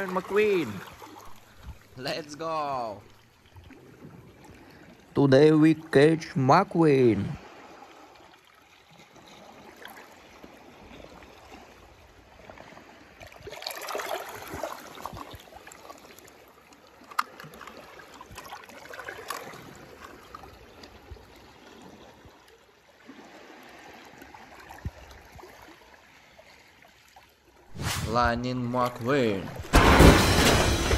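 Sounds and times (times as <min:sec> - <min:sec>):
water sloshing and trickling: 0:00.0 - 0:30.9.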